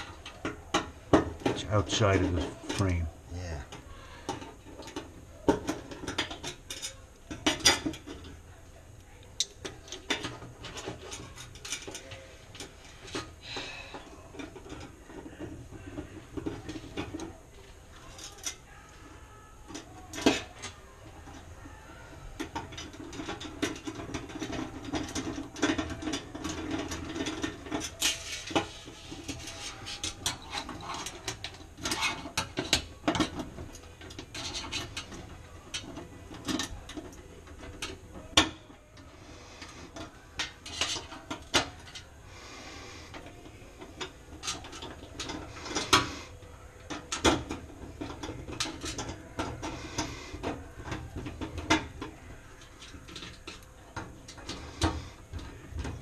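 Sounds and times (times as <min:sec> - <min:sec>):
screwdriver clattering on metal parts: 0:03.7 - 0:08.4, 0:09.4 - 0:17.4, 0:19.7 - 0:21.4, 0:22.3 - 0:38.7, 0:39.5 - 0:42.1, 0:43.0 - 0:56.0.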